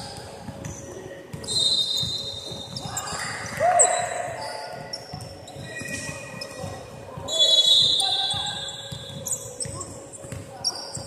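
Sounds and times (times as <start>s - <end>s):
basketball bouncing: 0.0s - 6.9s, 7.8s - 11.0s
sneakers squeaking: 0.0s - 11.0s.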